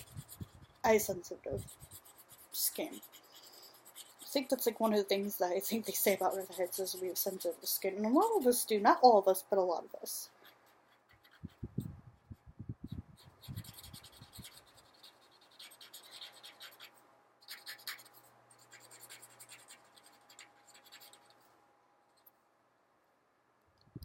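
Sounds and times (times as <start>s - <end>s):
marker scratching on paper: 0.0s - 8.8s, 10.1s - 21.4s.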